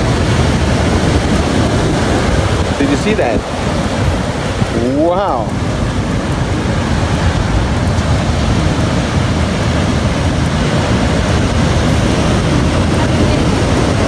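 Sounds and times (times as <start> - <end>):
surf washing: 0.0 - 14.0
wind buffeting microphone: 0.0 - 14.0.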